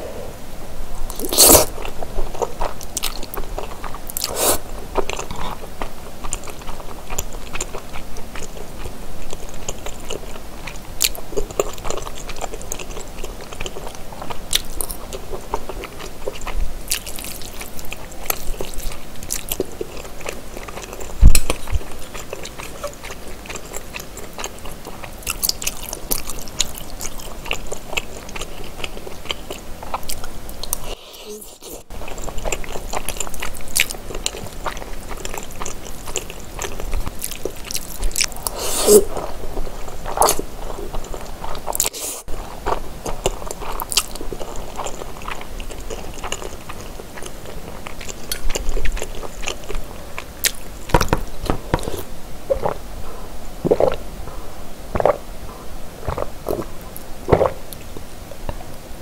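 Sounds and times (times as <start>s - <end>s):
close chewing and biting: 1.1s - 58.6s.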